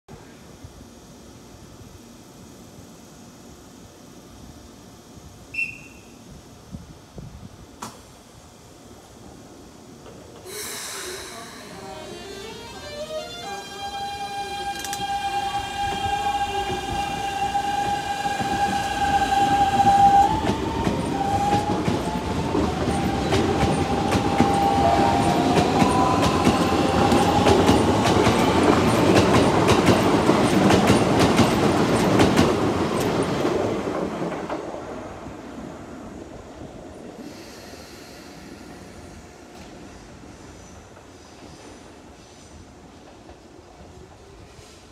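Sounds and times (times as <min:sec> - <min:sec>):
electric train inverter whine: 0:00.1 - 0:41.1.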